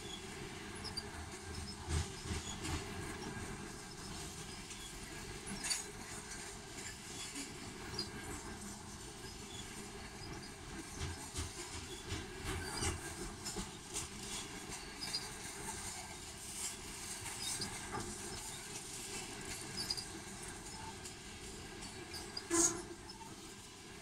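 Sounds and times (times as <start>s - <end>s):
clicks and clanks of railcars: 0.0s - 24.0s
train wheels rumbling on rails: 0.0s - 24.0s.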